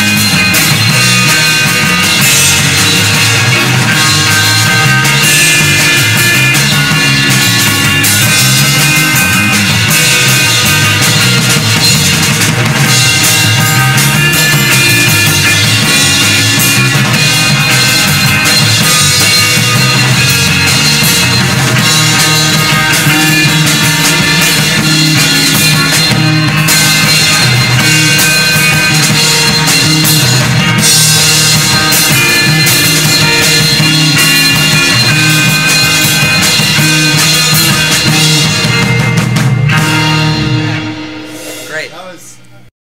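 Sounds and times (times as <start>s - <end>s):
drum kit playing: 0.0s - 42.7s
rock guitar: 0.0s - 42.7s.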